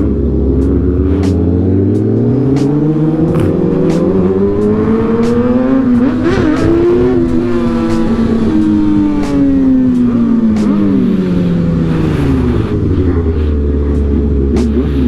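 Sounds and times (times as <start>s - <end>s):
vehicle engines revving: 0.0s - 15.0s.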